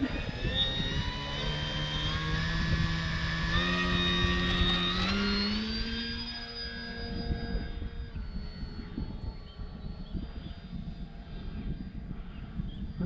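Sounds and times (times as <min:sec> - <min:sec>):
model plane motor whining: 0:00.0 - 0:13.0
wind rumbling on microphone: 0:00.0 - 0:13.0.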